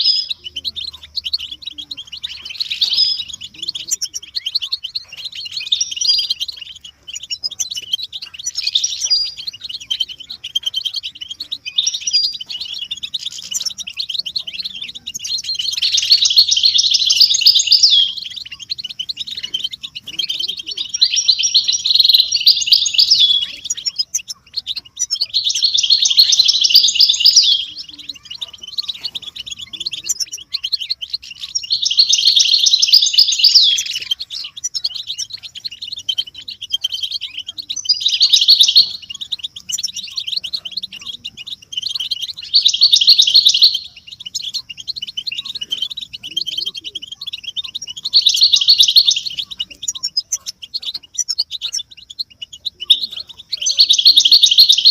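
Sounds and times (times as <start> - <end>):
goldfinches twittering: 0.0 - 54.9.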